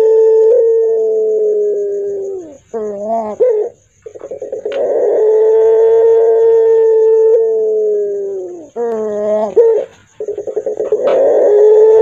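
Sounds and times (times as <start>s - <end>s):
dove cooing hoarsely: 0.0s - 12.0s.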